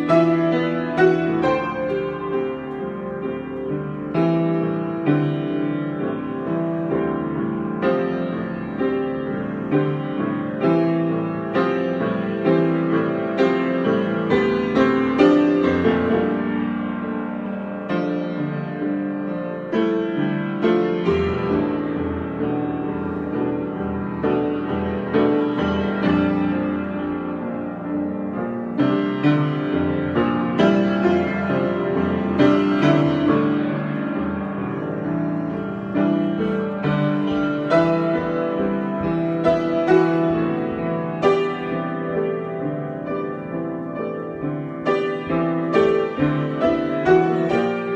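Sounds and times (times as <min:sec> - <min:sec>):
solo piano: 0:00.0 - 0:47.9.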